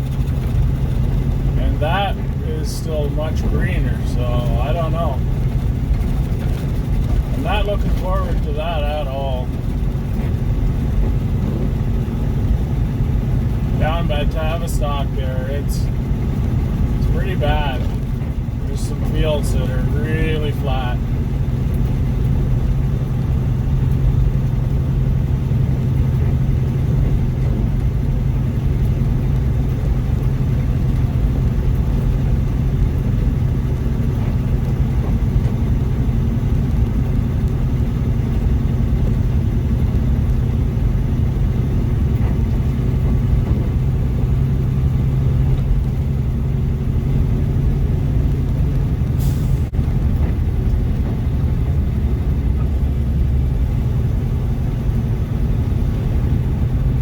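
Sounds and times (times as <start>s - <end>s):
diesel truck engine droning: 0.0s - 57.0s
road noise: 0.0s - 57.0s.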